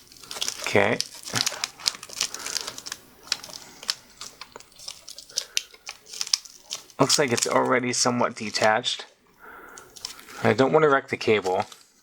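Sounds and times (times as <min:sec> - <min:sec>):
small clicks and crinkling: 0:00.0 - 0:07.8, 0:08.4 - 0:08.9, 0:09.7 - 0:10.5, 0:11.2 - 0:12.0.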